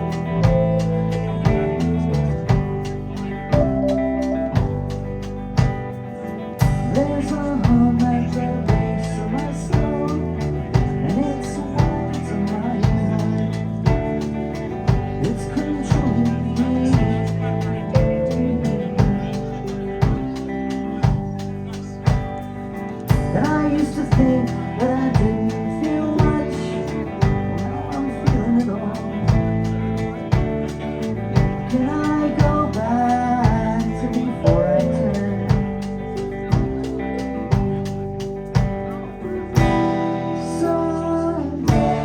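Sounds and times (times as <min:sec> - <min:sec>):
drums keeping steady beat: 0:00.0 - 0:40.8, 0:41.6 - 0:42.0
live band playing: 0:00.0 - 0:42.0.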